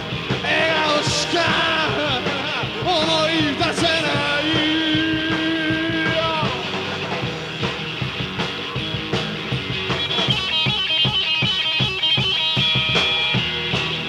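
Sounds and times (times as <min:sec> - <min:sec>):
drums: 0:00.0 - 0:14.0.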